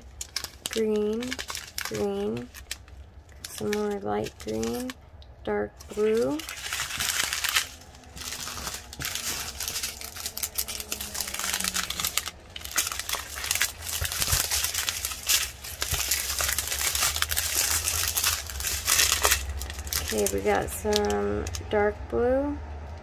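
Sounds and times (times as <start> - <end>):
plastic packaging crinkling: 0.0 - 5.0, 5.8 - 21.7.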